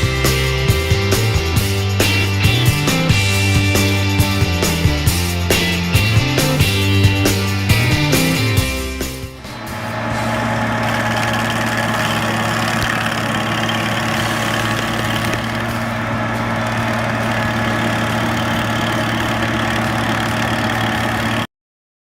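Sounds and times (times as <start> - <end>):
stump grinder engine running: 0.0 - 21.5.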